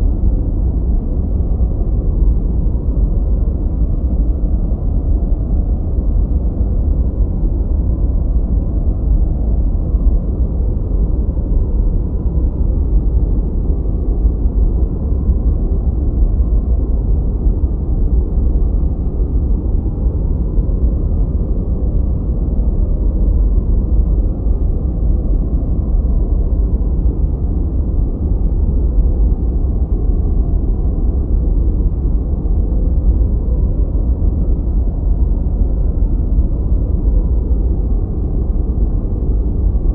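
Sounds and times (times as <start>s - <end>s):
low muffled white noise: 0.0s - 39.9s.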